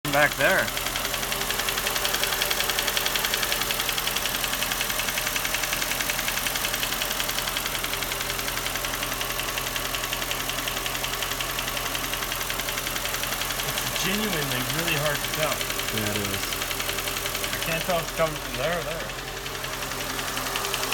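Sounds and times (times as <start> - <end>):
car engine idling: 0.0 - 20.9
rapid light engine tapping: 0.1 - 20.9.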